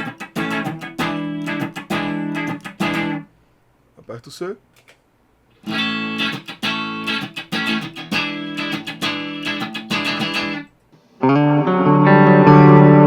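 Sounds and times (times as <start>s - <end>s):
electric guitar strumming chords: 0.0s - 3.3s, 5.6s - 13.0s
sustained muffled guitar tone: 0.0s - 3.3s, 5.6s - 13.0s.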